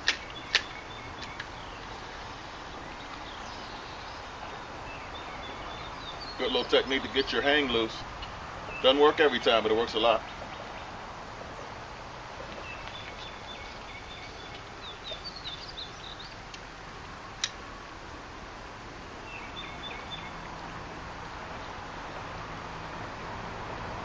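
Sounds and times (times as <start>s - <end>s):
birds chirping: 0.0s - 24.0s
moving water: 0.0s - 24.0s
wind: 0.0s - 24.0s.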